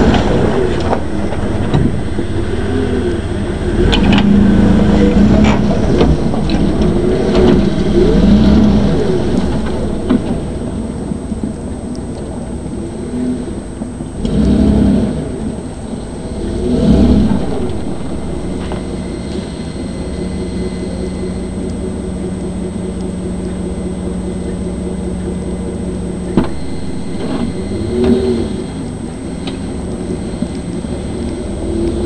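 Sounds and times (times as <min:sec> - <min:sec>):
pickup engine revving and idling: 0:00.0 - 0:32.0.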